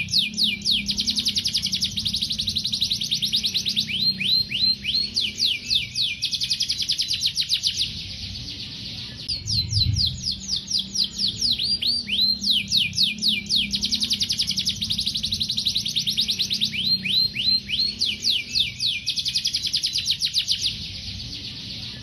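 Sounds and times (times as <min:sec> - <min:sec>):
canary singing trills and whistles: 0:00.0 - 0:22.0.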